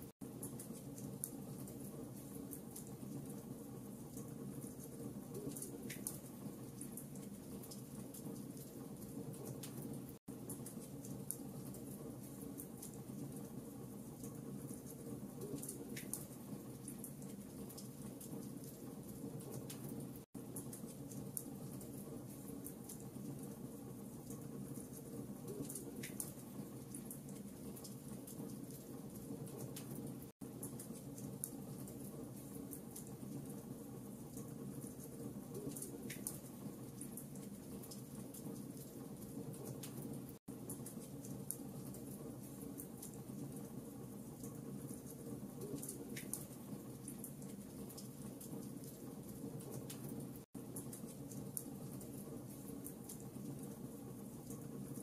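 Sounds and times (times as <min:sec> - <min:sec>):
rumble of flames: 0:00.1 - 0:55.0
logs crackling in a fire: 0:00.2 - 0:55.0.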